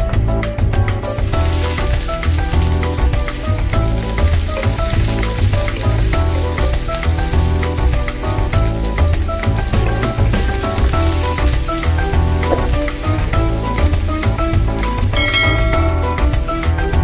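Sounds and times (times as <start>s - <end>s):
background music with bass line: 0.0s - 17.0s
onion sizzling in hot oil: 1.1s - 17.0s.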